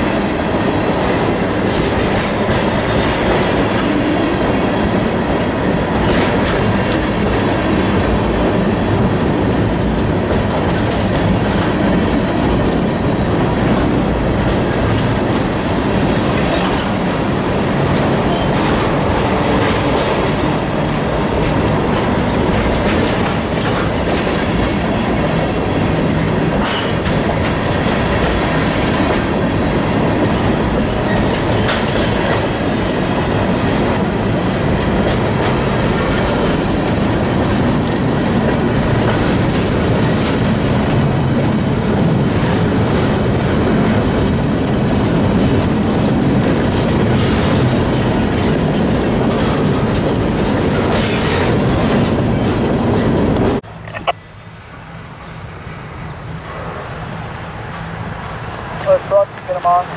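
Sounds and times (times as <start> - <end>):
freight train rumbling on rails: 0.0 - 59.9
wheels clicking over rail joints: 1.1 - 54.0.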